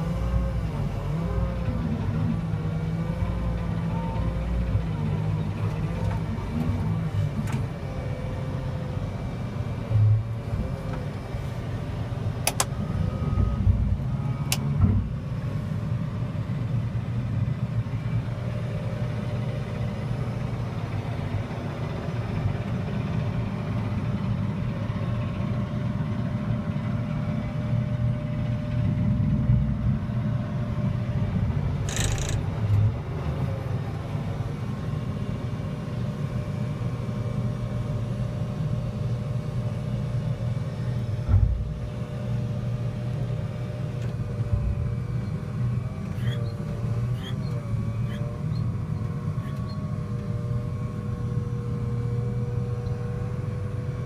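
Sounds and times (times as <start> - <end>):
loader diesel engine running: 0.0 - 54.0.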